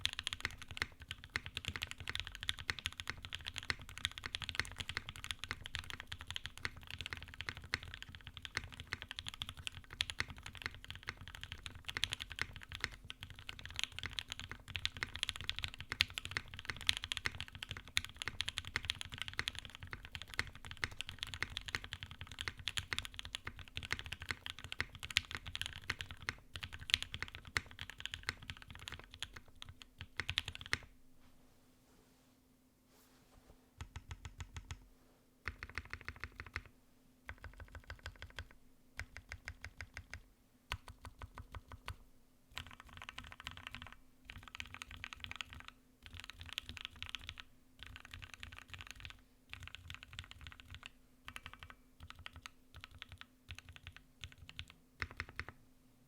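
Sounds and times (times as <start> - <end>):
mechanical keyboard typing: 0.0 - 30.9, 33.8 - 34.8, 35.5 - 36.7, 37.3 - 55.6.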